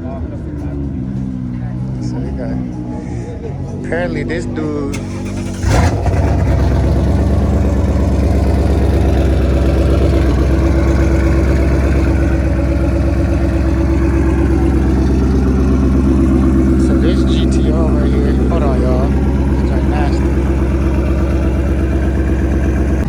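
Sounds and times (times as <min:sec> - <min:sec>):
car engine starting and idling: 0:00.1 - 0:23.0.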